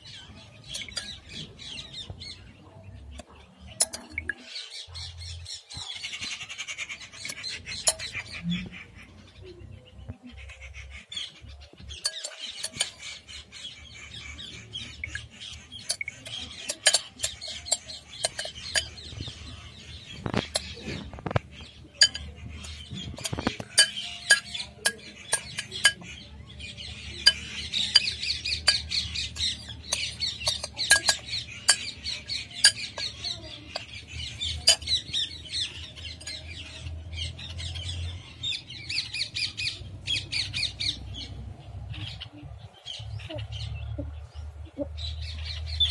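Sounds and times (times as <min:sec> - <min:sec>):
birds chirping and squawking: 0:00.0 - 0:45.9.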